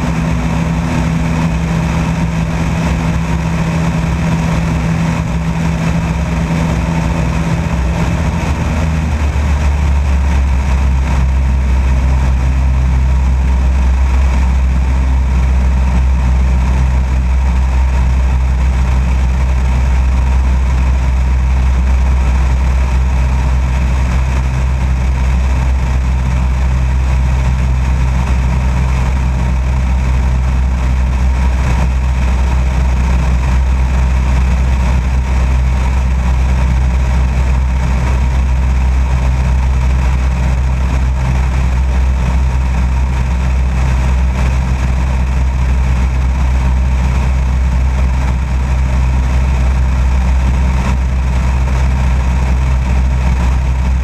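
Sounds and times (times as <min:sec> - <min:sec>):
propeller plane engine droning: 0:00.0 - 0:54.0
rushing airflow: 0:00.0 - 0:54.0.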